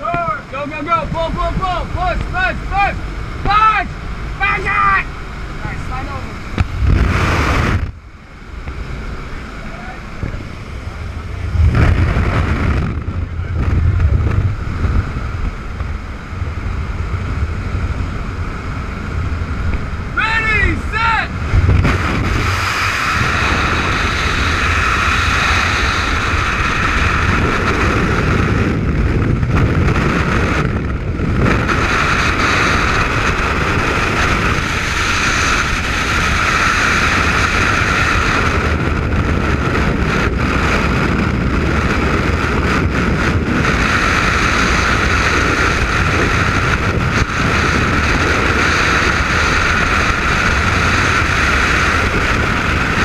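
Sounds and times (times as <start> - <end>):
freefall wind rushing over microphone: 0.0 - 53.0.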